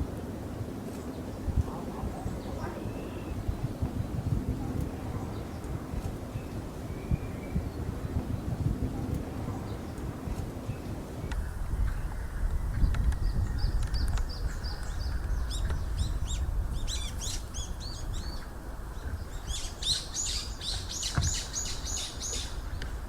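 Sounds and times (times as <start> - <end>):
birds chirping: 0.9 - 23.0.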